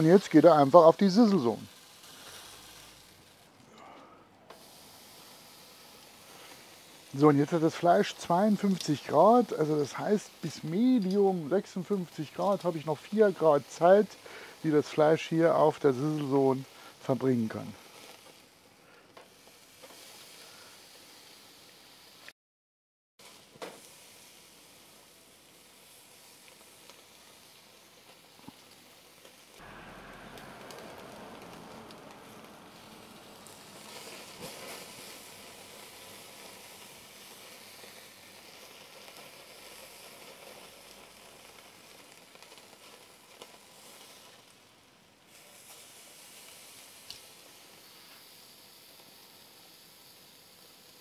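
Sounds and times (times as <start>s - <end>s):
meat sizzling on grill: 0.0s - 22.3s, 23.2s - 51.0s.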